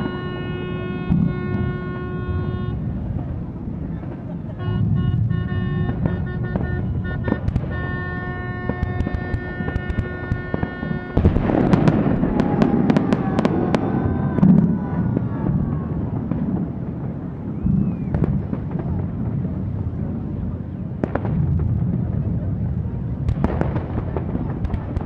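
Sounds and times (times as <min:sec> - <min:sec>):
fireworks bangs and crackles: 0:00.0 - 0:25.0
whistling fireworks: 0:00.0 - 0:25.0.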